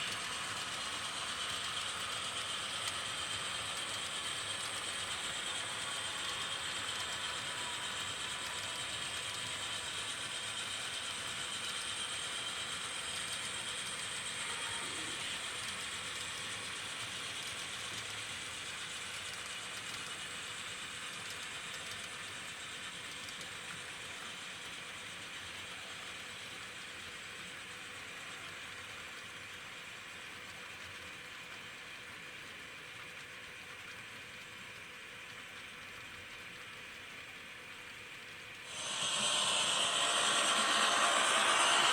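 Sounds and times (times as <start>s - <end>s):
model locomotive motor whine: 0.0s - 41.9s.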